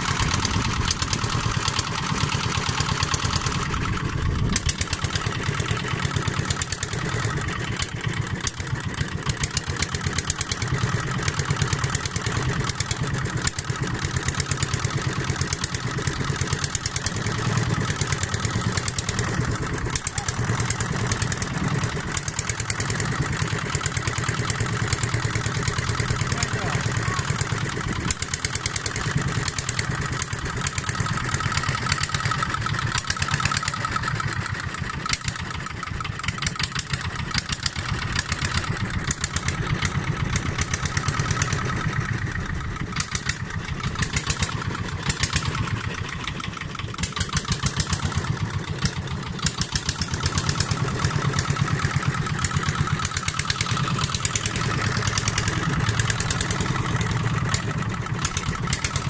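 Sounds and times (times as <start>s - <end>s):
small boat engine chugging: 0.0s - 59.0s.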